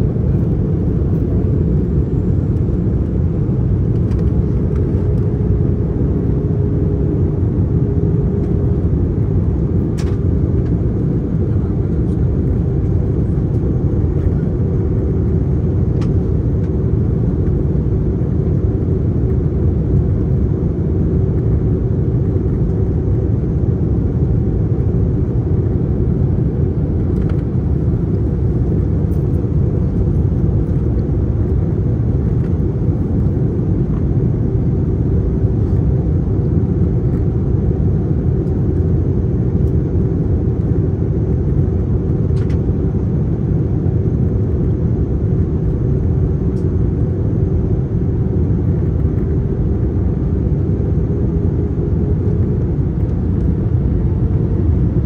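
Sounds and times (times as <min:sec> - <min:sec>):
aircraft cabin engine roar: 0:00.0 - 0:55.0.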